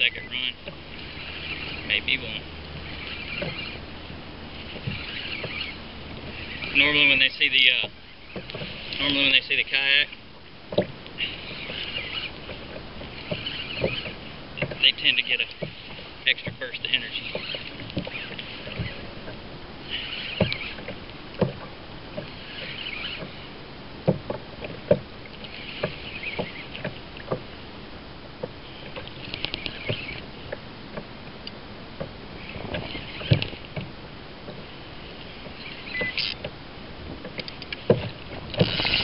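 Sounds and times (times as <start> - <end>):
knocks and clicks from boat: 0.0 - 39.0
water slapping against hull: 0.0 - 39.0.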